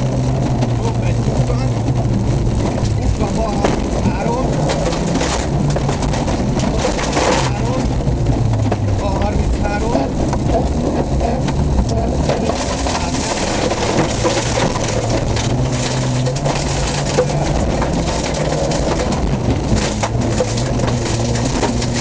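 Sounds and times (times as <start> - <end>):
race car engine running hard: 0.0 - 22.0
car body clattering and knocking: 1.8 - 22.0.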